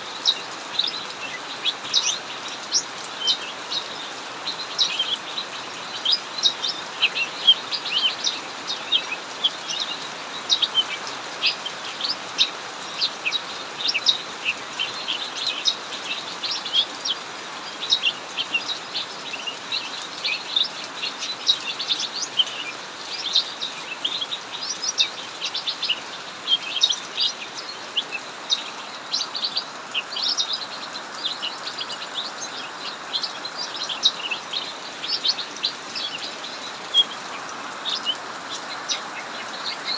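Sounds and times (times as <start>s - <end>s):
heavy rain hiss: 0.0s - 39.9s
songbirds chirping and trilling: 0.0s - 39.9s.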